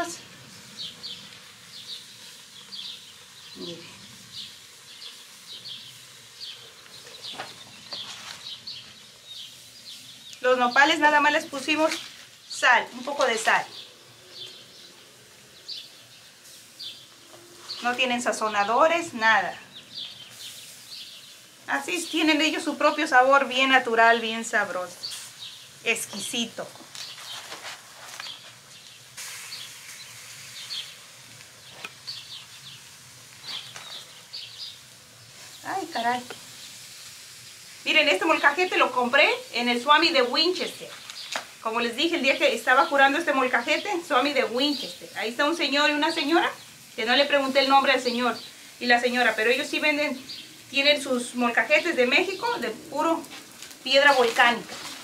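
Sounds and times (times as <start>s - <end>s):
small birds chirping: 0.0s - 55.0s
steady hiss: 0.0s - 55.0s.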